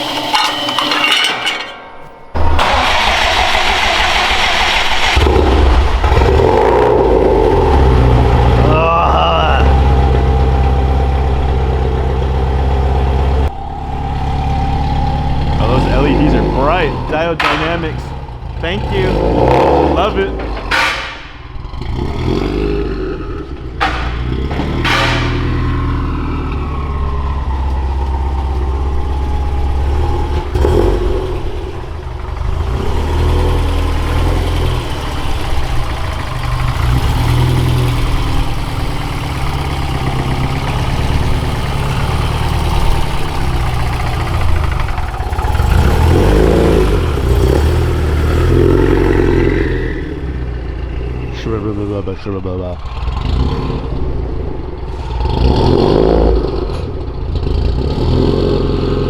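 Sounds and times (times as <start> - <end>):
car engine running: 2.3 - 58.1.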